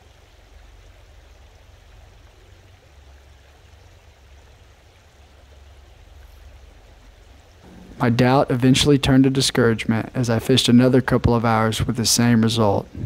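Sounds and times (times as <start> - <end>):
creek running over gravel: 0.0 - 12.8.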